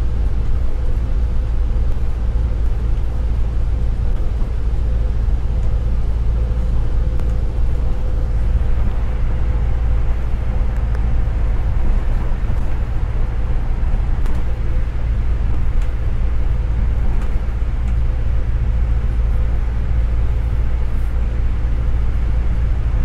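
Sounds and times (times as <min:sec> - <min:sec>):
bus engine and road drone: 0:00.0 - 0:23.0
faint constant whine: 0:00.0 - 0:23.0.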